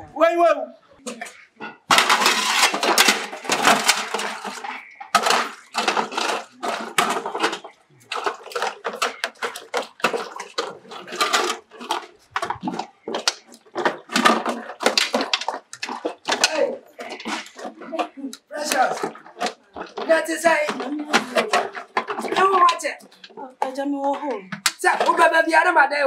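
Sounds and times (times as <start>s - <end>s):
dishes clattering and scraping: 1.0s - 25.5s.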